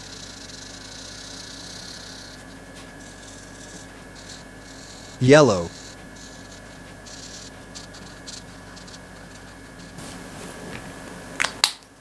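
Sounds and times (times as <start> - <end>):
marker scratching on paper: 0.0 - 10.0
faint steady hum: 0.0 - 12.0.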